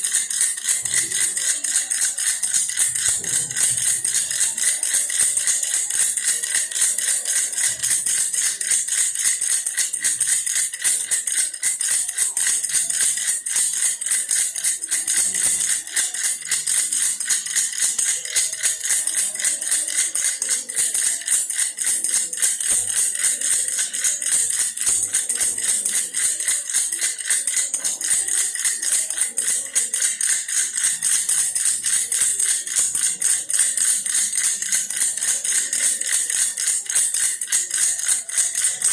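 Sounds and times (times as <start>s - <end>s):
toy rattle jingling: 0.0s - 38.9s.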